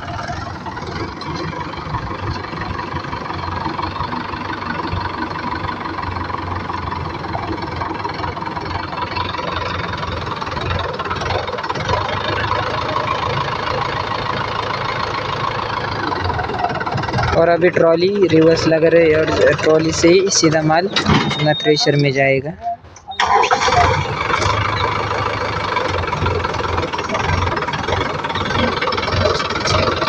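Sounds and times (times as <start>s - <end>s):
tractor diesel engine at low revs: 0.0s - 30.0s.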